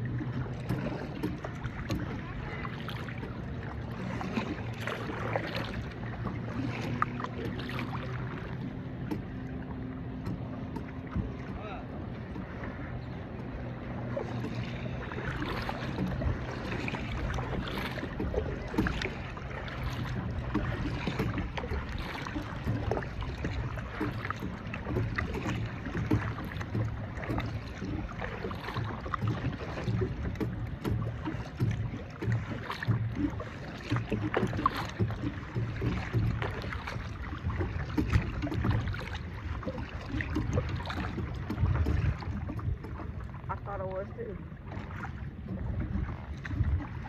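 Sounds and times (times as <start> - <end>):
small splashes and knocks: 0.0 - 47.0.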